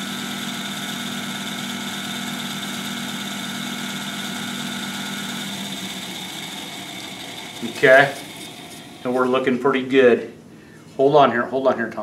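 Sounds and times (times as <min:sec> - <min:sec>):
balancing machine humming: 0:00.0 - 0:09.9.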